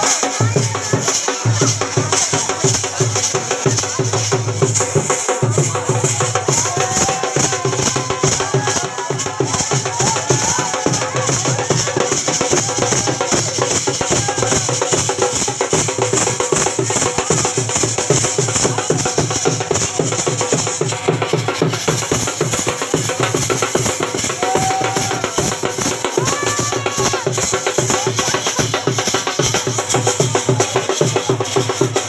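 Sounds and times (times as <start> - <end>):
crowd voices: 0.0 - 32.0
dhol drum dance rhythm: 0.0 - 32.0.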